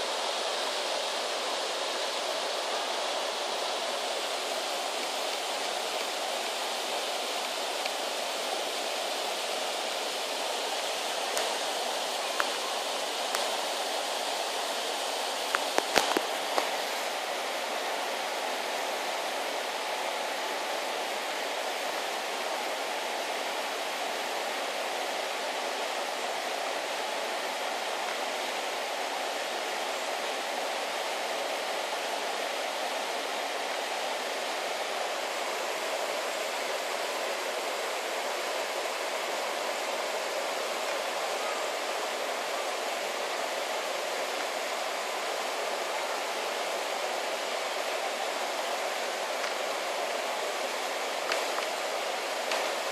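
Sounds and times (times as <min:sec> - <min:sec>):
small waterfall and river rushing: 0:00.0 - 0:52.9.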